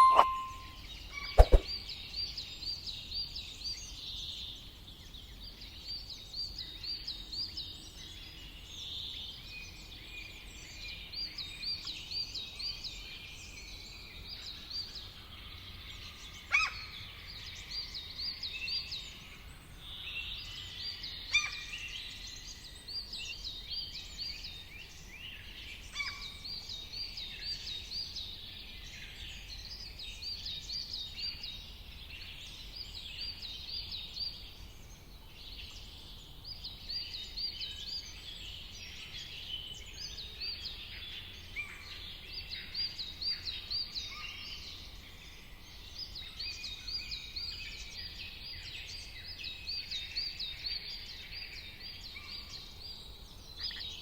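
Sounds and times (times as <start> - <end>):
wild birds singing: 0.0 - 54.0.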